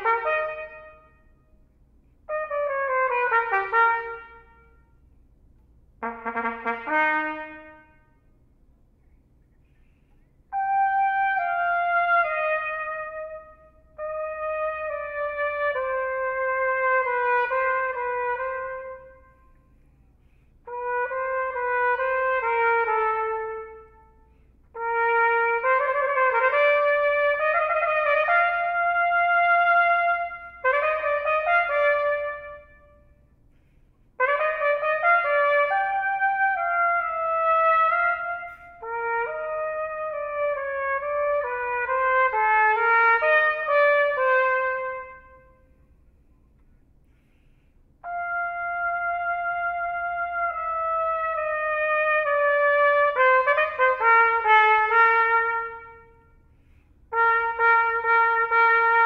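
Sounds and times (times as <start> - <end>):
solo trumpet playing: 0.0 - 5.1, 5.9 - 8.4, 10.5 - 46.3, 48.0 - 59.0.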